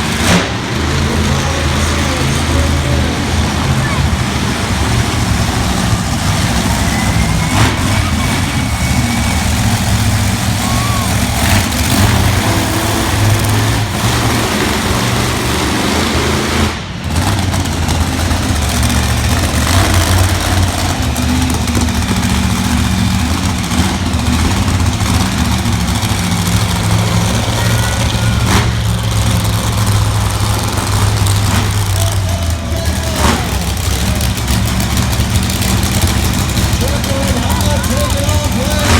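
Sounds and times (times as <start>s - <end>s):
monster truck engines running: 0.0s - 38.9s.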